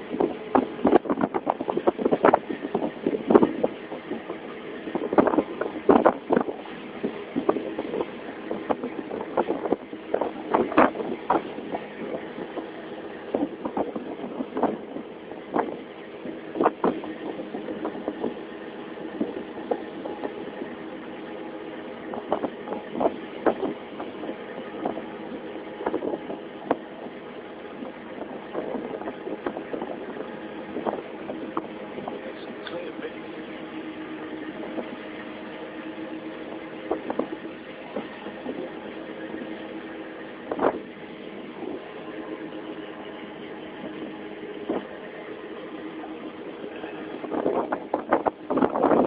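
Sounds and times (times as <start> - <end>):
boat engine running: 0.0 - 49.0.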